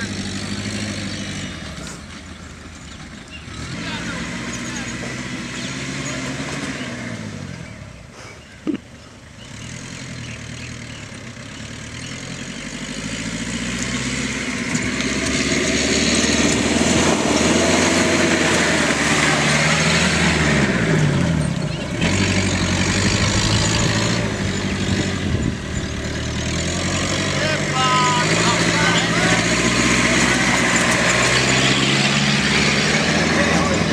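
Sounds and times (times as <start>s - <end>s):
engine revving: 0.0s - 8.0s, 9.3s - 33.9s.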